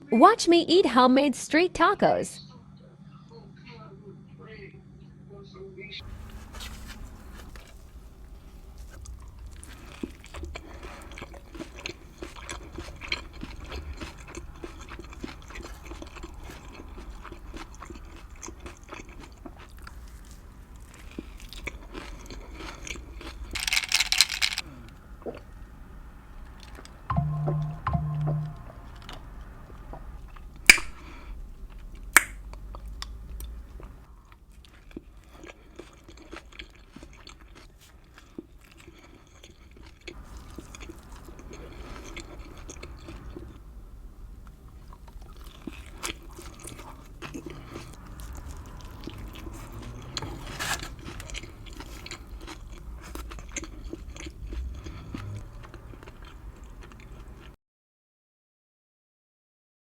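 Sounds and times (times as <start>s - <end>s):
person chewing food: 6.0s - 57.6s.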